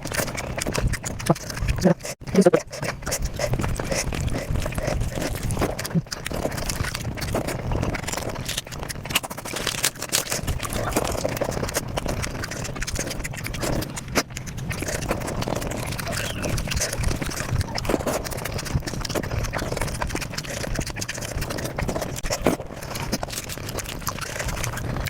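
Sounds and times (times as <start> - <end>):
sped-up chewing and mouth sounds: 0.0 - 25.0.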